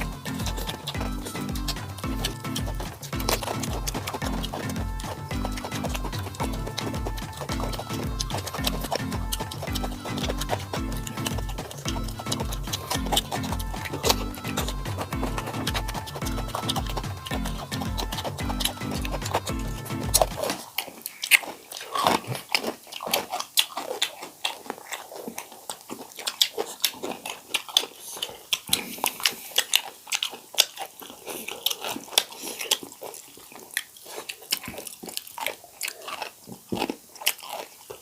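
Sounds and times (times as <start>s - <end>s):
chewing and biting: 0.0s - 38.0s
food crunching: 0.0s - 38.0s
wet mouth clicks: 0.0s - 38.0s.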